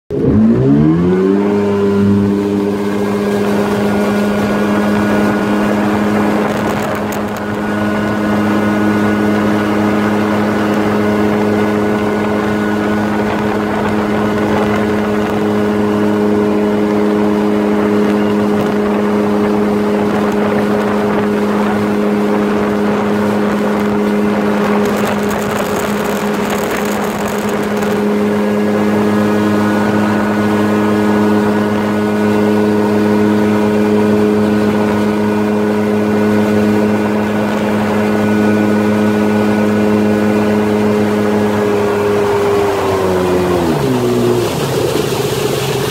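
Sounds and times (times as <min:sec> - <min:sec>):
jet ski engine drone: 0:00.1 - 0:45.9
water rushing: 0:00.1 - 0:45.9.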